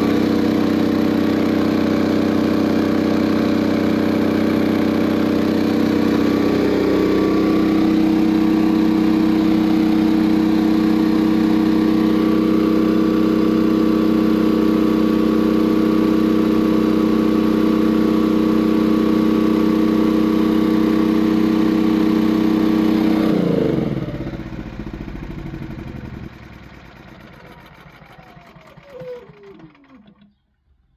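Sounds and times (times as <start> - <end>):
generator engine running: 0.0 - 30.4
engine spinning down: 0.0 - 30.5.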